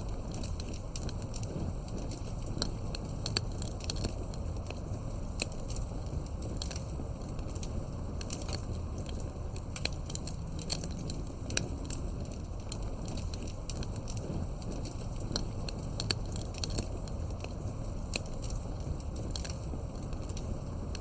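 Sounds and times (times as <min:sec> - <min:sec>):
campfire crackling and popping: 0:00.0 - 0:21.0
low rumble of burning wood: 0:00.0 - 0:21.0.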